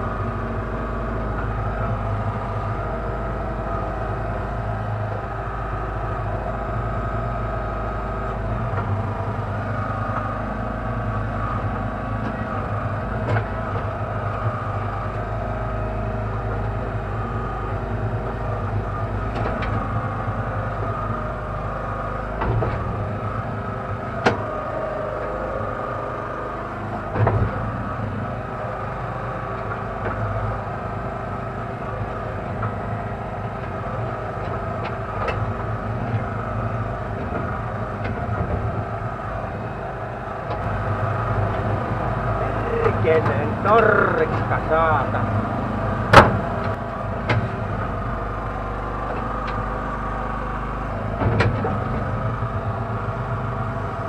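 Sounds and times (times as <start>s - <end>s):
backhoe engine running: 0.0s - 54.0s
hydraulic arm clunks: 6.0s - 54.0s.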